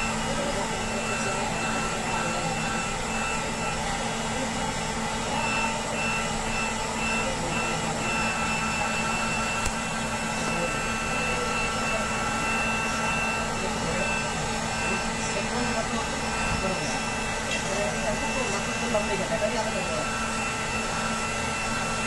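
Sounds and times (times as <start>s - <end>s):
heat gun fan whine: 0.0s - 22.0s.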